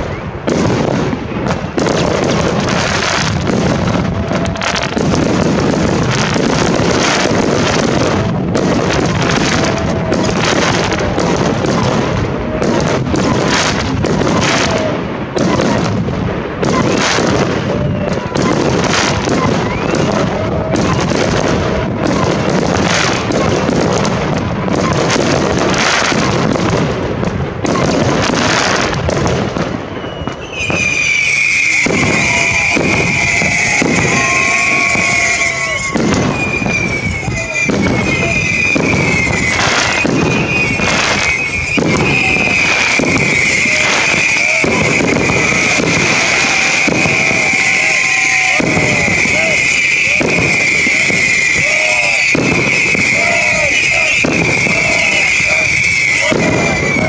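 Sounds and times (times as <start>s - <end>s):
fireworks bursting and crackling: 0.0s - 57.0s
high fireworks whistling: 0.0s - 57.0s.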